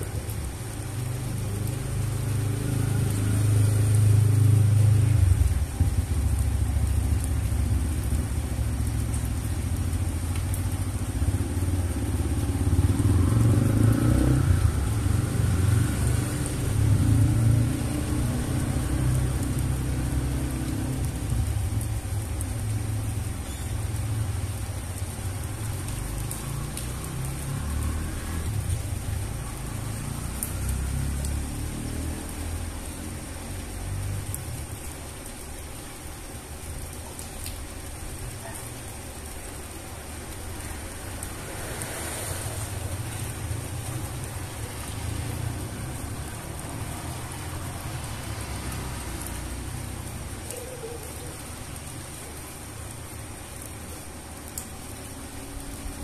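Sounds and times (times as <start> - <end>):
heavy rain on concrete: 0.0 - 56.0.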